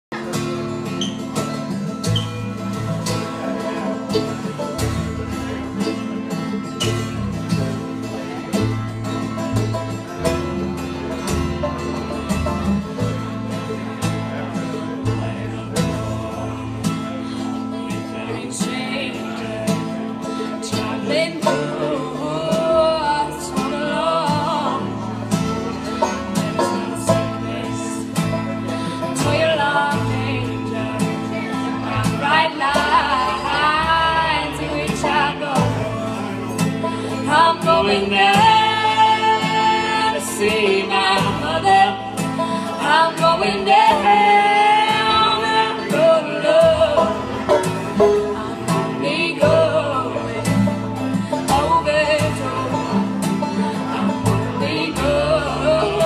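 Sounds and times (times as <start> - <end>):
plucked upright bass: 0.0 - 56.0
strummed acoustic guitar: 0.0 - 56.0
wavering fiddle melody: 0.2 - 56.0.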